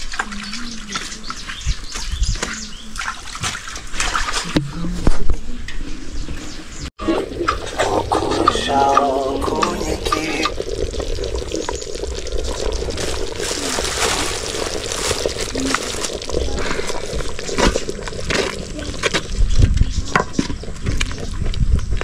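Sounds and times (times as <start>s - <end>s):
water pouring and sloshing: 0.0s - 6.4s, 7.0s - 22.0s.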